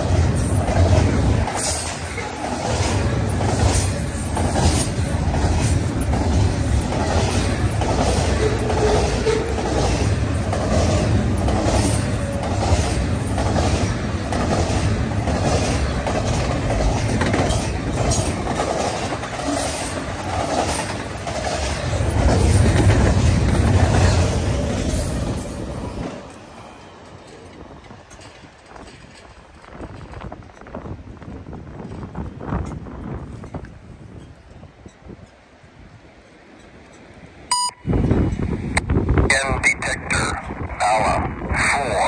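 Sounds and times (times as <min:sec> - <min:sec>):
wheels clicking over rail joints: 0:00.0 - 0:37.4
freight train wheels rumbling: 0:00.0 - 0:42.0.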